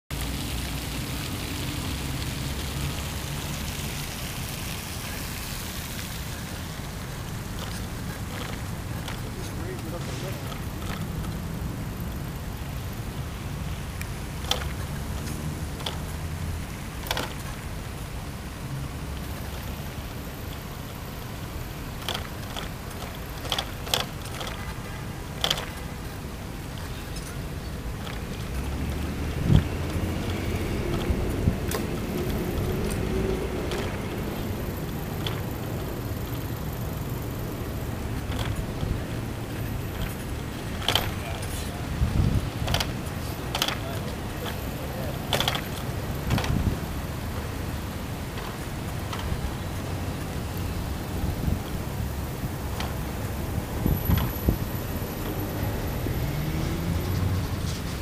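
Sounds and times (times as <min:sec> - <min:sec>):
bike creaks and clicks: 0:00.1 - 0:58.0
fountain jets splashing into pool: 0:00.1 - 0:58.0
wind and tyre rumble: 0:00.1 - 0:58.0.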